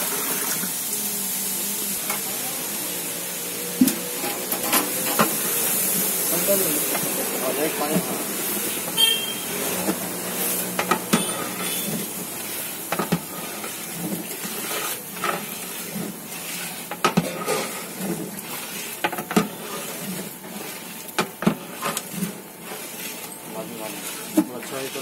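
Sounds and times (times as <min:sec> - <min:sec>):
gravy sizzling in pot: 0:00.0 - 0:25.0
ladle scraping metal pot: 0:03.9 - 0:25.0.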